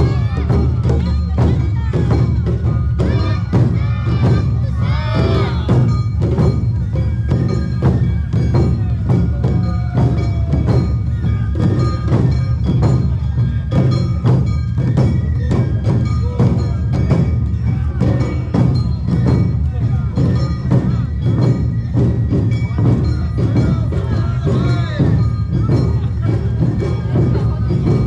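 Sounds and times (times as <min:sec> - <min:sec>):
drums beating: 0:00.0 - 0:28.0.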